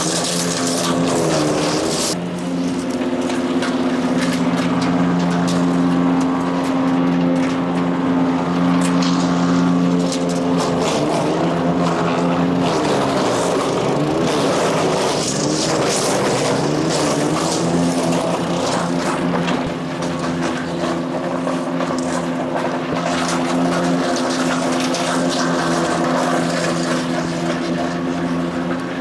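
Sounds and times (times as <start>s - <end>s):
engine running: 0.0s - 29.0s.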